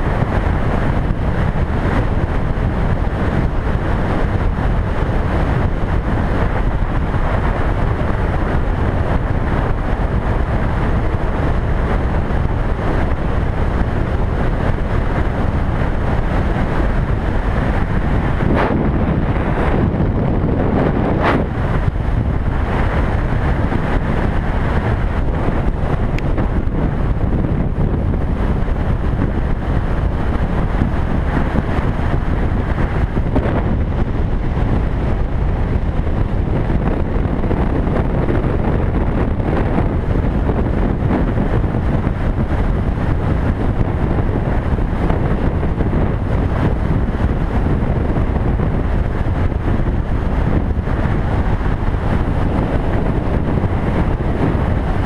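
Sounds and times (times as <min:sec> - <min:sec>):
motorcycle engine and tyre noise: 0:00.0 - 0:55.0
wind rushing over microphone: 0:00.0 - 0:55.0.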